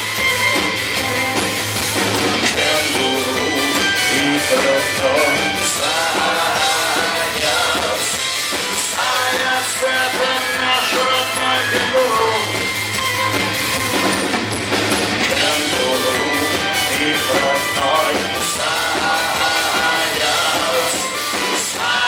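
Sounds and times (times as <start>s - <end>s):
drum kit: 0.0s - 22.0s
live rock band playing: 0.0s - 22.0s.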